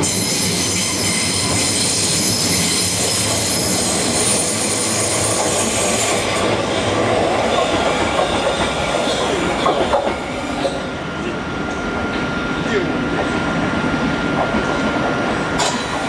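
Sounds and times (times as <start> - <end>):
train motor whine: 0.0 - 16.0
wheel and rail rumble: 0.8 - 16.0.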